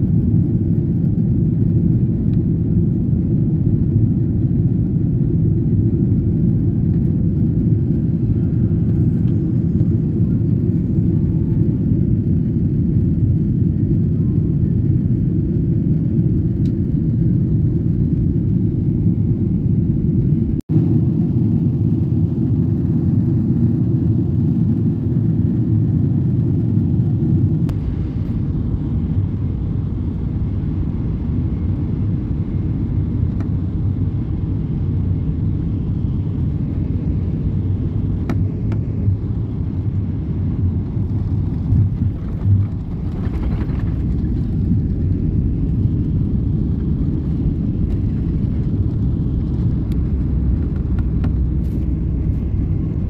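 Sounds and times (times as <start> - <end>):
jet engines and airflow rumbling: 0.0 - 53.0.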